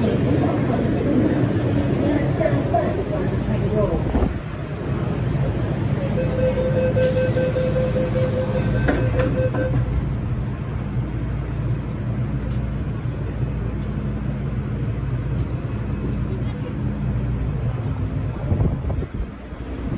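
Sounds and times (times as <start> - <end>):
train low rumble: 0.0 - 19.9.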